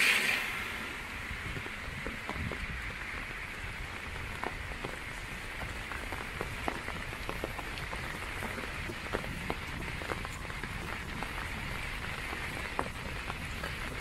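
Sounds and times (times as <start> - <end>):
rain on a wet street: 0.0 - 14.0
raindrops tapping on umbrella: 1.0 - 14.0.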